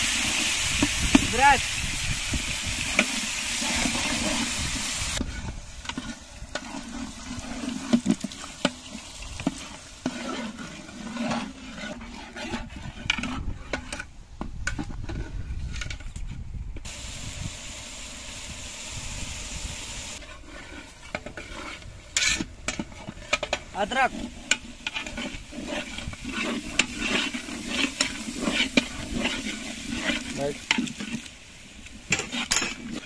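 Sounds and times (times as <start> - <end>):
paste sizzling in oil: 0.0 - 13.9, 16.8 - 33.0
metal ladle scraping pot: 0.0 - 16.1, 20.1 - 33.0.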